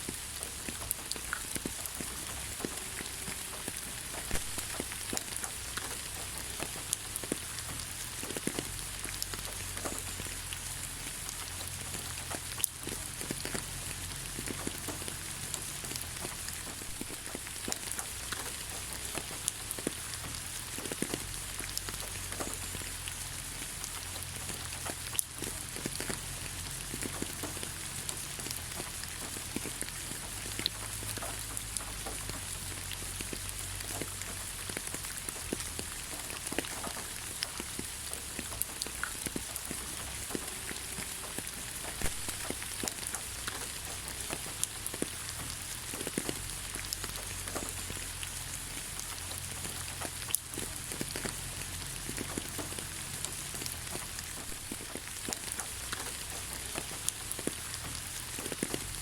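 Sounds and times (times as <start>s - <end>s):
raindrops ticking and splashing: 0.0s - 59.0s
steady rain hiss: 0.0s - 59.0s.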